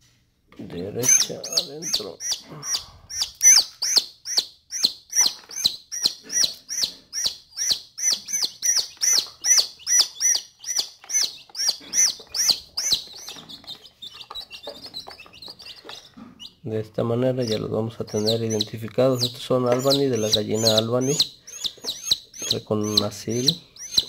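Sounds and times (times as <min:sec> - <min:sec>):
chick peeping loudly: 0:01.0 - 0:24.0.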